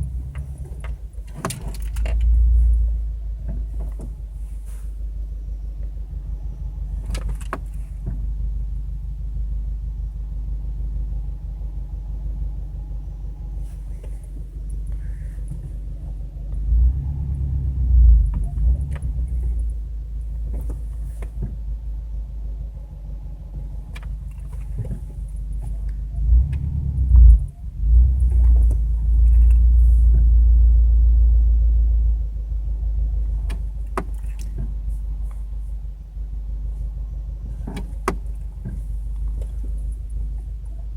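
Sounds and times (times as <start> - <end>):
car engine rumble: 0.0 - 40.9.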